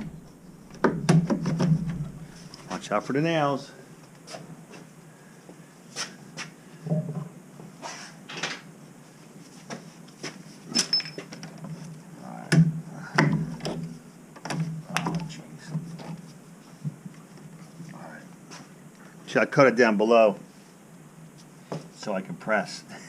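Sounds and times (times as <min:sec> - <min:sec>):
steady low hum: 0:00.0 - 0:10.8, 0:11.4 - 0:23.0.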